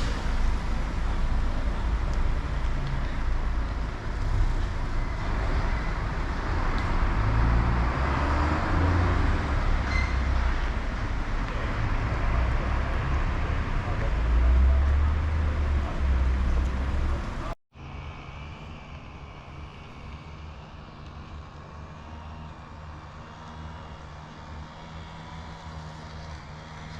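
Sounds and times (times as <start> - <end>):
road traffic noise: 0.0 - 26.9.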